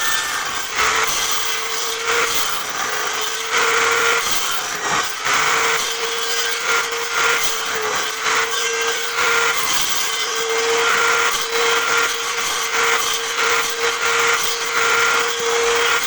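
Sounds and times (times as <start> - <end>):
table saw cutting wood: 0.0 - 16.0.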